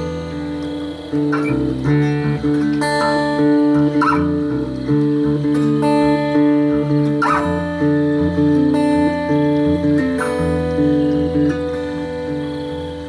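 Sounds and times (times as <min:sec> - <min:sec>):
acoustic guitar strummed slowly: 0:00.0 - 0:13.0.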